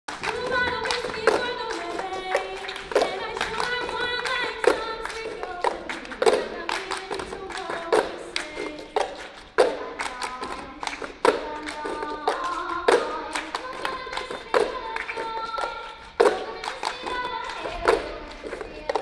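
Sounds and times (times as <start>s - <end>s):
girls' choir singing: 0.1s - 19.0s
hand claps: 0.1s - 19.0s.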